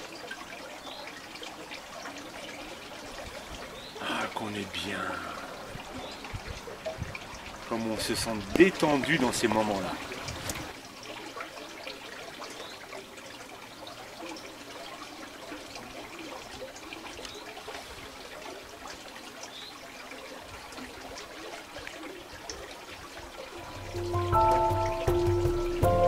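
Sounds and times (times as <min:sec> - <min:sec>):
water trickling through stone channel: 0:00.0 - 0:26.0.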